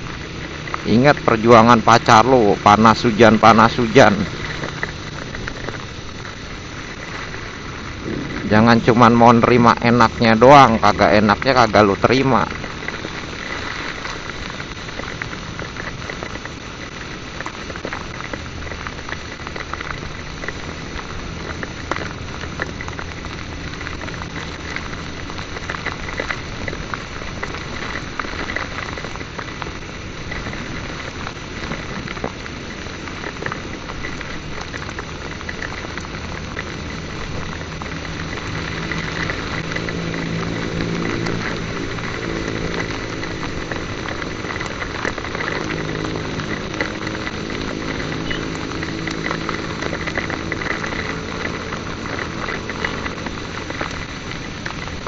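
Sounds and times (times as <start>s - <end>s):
heavy rain: 0.0s - 55.0s
motorcycle engine running: 0.0s - 55.0s.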